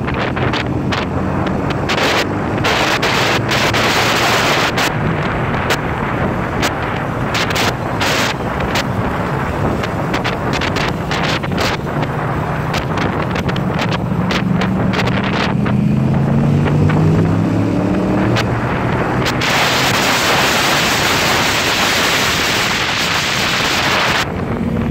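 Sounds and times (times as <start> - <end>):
motorcycle engine accelerating: 0.0 - 24.9
wind rush on microphone: 0.0 - 24.9.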